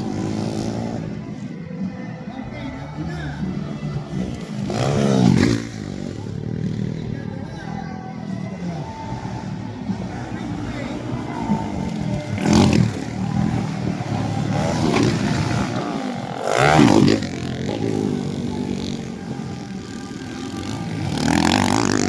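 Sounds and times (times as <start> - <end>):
dirt bike engines revving and passing: 0.0 - 22.0.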